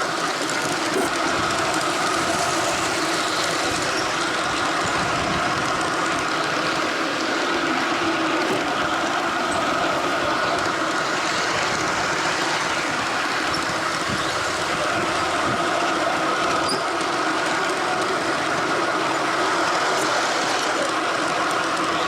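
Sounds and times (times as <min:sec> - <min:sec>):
model train wheels on rail: 0:00.0 - 0:22.0.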